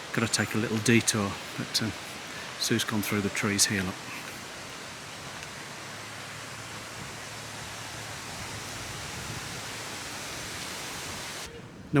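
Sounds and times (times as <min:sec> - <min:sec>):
outdoor noise hiss: 0:00.0 - 0:12.0.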